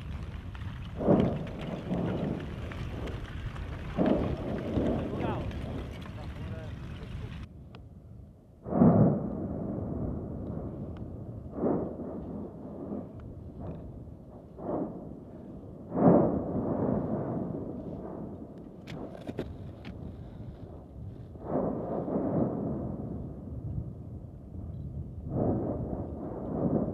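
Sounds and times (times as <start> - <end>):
sharp crackles: 0.0 - 7.5, 8.7 - 26.9
volcanic explosions rumbling: 0.0 - 26.9.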